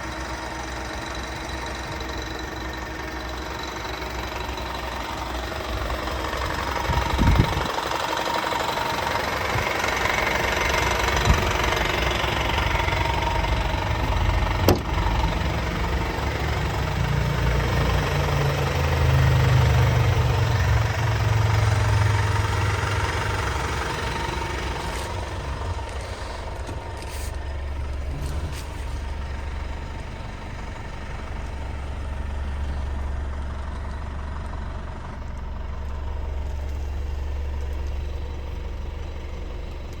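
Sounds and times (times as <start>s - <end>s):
diesel truck engine idling: 0.0s - 40.0s.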